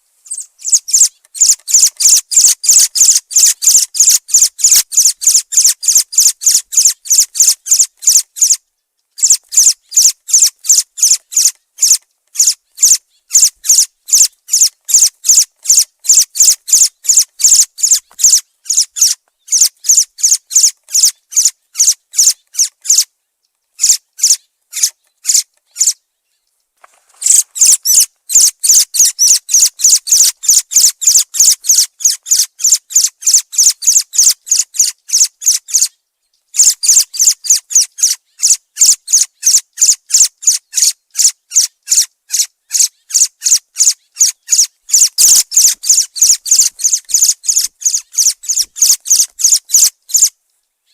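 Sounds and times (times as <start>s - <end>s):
thrush calling: 0.3s - 8.6s, 9.2s - 23.1s, 23.8s - 26.0s, 27.2s - 35.9s, 36.6s - 50.4s.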